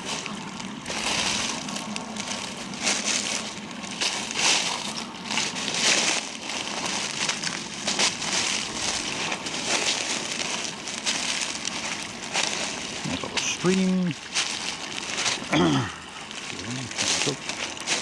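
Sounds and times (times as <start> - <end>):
footsteps crunching dry leaves: 0.0 - 18.0.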